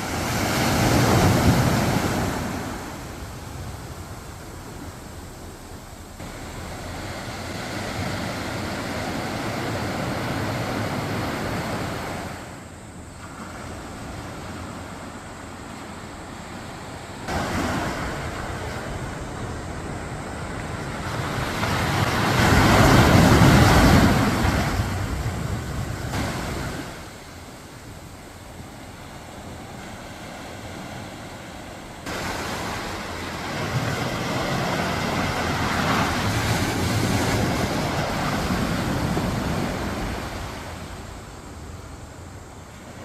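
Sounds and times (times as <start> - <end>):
waves washing onto sandy beach: 0.0 - 43.0.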